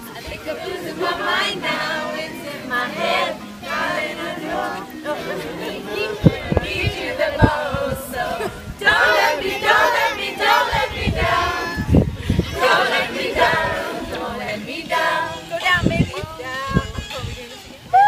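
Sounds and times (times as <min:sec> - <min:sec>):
adults and children singing: 0:00.0 - 0:16.9.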